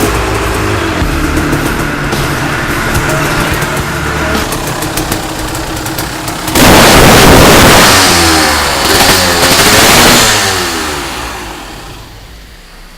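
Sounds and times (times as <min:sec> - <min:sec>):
dirt bike engine revving: 0:00.0 - 0:11.8.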